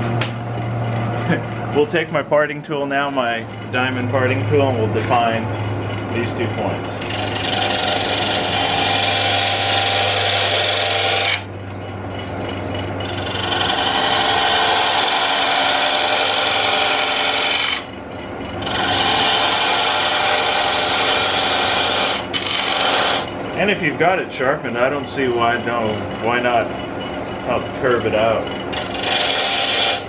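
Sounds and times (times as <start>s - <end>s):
lathe motor humming: 0.0s - 30.0s
tool scraping spinning wood: 3.0s - 30.0s.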